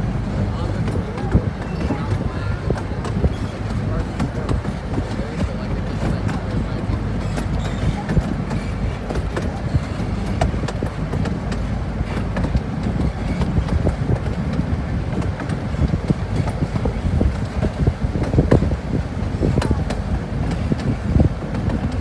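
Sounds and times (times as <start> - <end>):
train rumbling on track: 0.0 - 22.0
wheels clicking on rails: 0.0 - 22.0.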